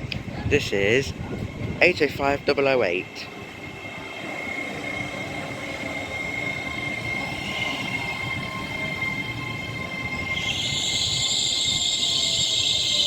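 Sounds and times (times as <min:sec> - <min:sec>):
train whining high-pitched: 0:00.1 - 0:13.0.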